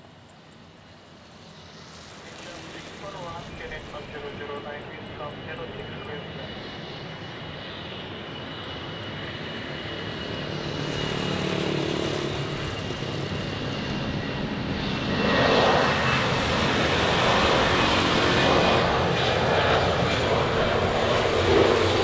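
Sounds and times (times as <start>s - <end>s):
jet engines at takeoff power: 0.0s - 22.0s.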